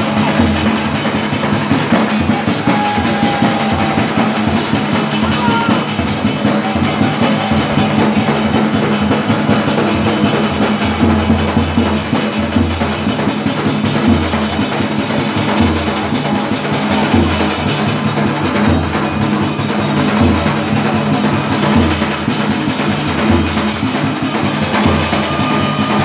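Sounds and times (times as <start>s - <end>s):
barrel drum beating: 0.0s - 26.0s
other percussion: 0.0s - 26.0s.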